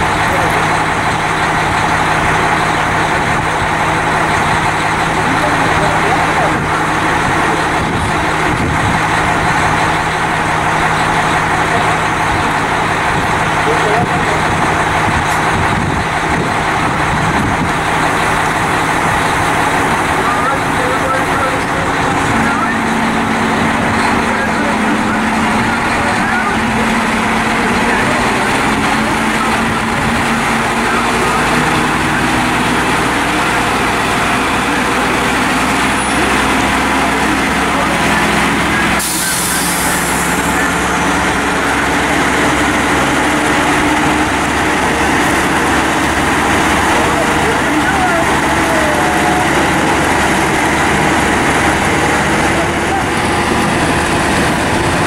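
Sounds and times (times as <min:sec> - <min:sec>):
locomotive diesel engine running: 0:00.0 - 0:55.0.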